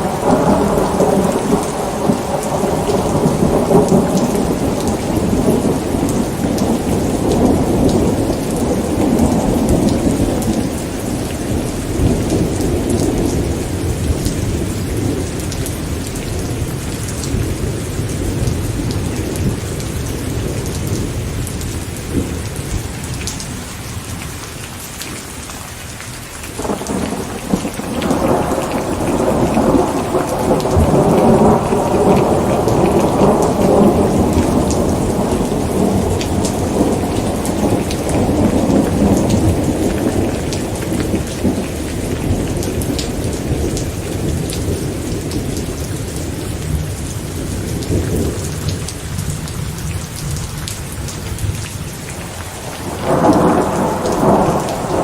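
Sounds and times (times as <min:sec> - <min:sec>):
rolling thunder: 0:00.0 - 0:23.2, 0:26.6 - 0:55.0
steady rain: 0:00.0 - 0:55.0.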